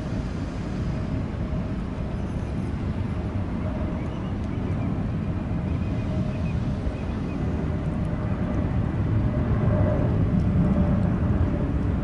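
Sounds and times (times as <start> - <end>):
distant jet airliners rumbling: 0.0 - 12.0.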